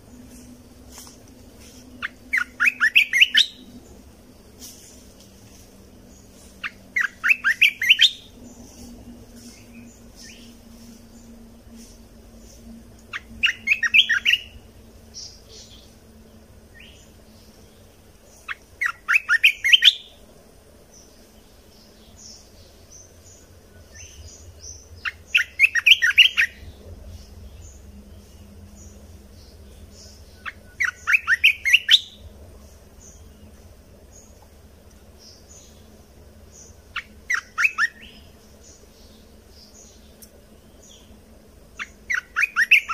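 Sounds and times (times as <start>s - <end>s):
faint high bird chirps: 0.2s - 4.0s, 4.6s - 16.0s, 16.7s - 20.2s, 21.8s - 34.5s, 35.2s - 41.2s, 41.8s - 42.9s.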